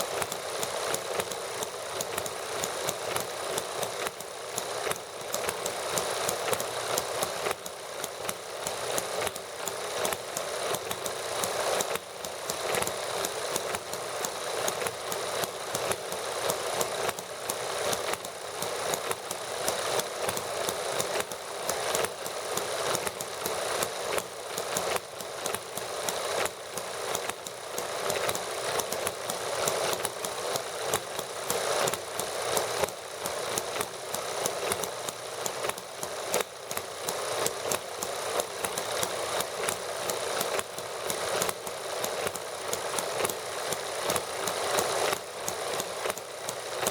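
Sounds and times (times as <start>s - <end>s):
model gasoline engines clattering: 0.0s - 46.9s.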